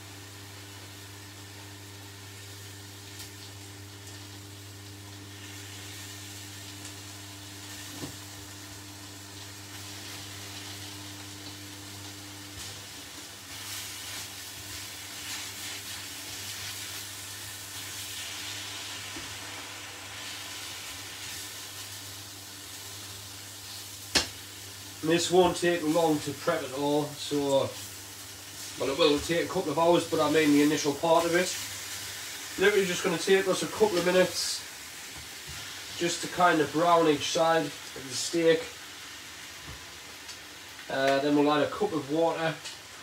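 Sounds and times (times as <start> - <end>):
steaks sizzling in a frying pan: 0.1 - 43.0.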